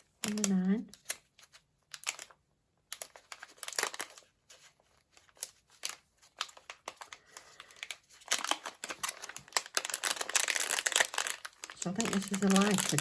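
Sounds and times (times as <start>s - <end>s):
packaging crinkling: 0.0s - 2.4s, 3.0s - 13.0s.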